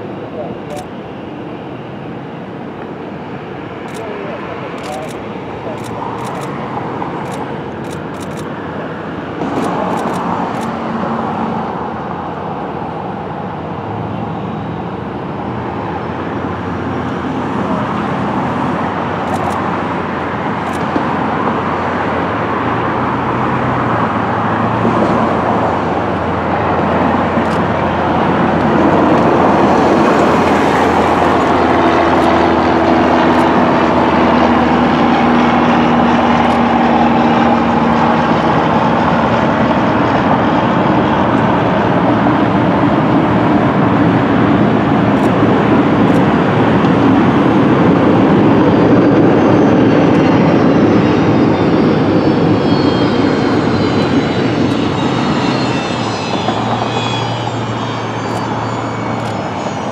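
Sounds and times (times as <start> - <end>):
aircraft engine noise: 0.0 - 59.9.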